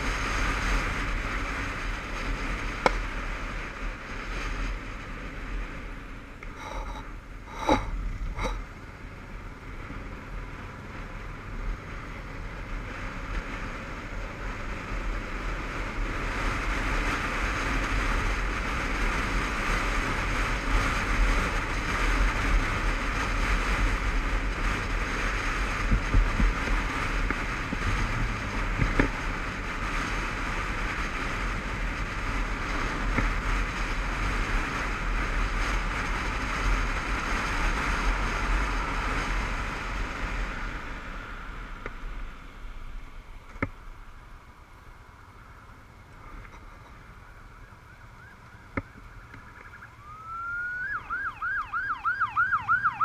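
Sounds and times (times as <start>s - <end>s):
motorcycle engine rumble: 0.0s - 53.0s
wind rushing over camera: 0.0s - 53.0s.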